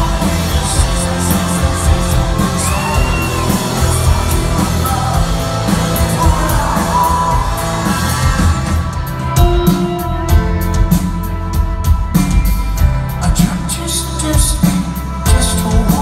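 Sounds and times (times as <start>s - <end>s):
person singing: 0.0s - 10.0s, 13.1s - 16.0s
live rock band playing: 0.0s - 16.0s.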